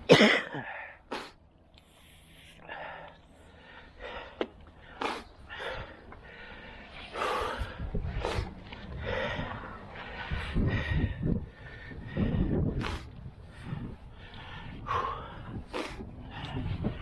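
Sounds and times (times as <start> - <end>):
person breathing hard: 0.5 - 17.0.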